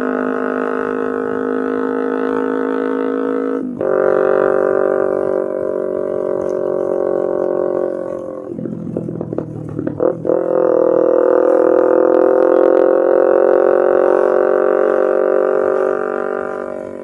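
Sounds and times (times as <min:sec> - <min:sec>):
motorcycle engine with loud exhaust: 0:00.0 - 0:17.0.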